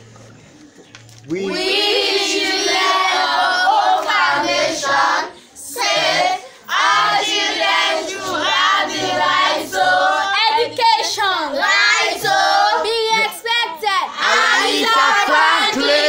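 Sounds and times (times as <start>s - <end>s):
children singing: 1.3s - 13.3s, 14.1s - 16.0s.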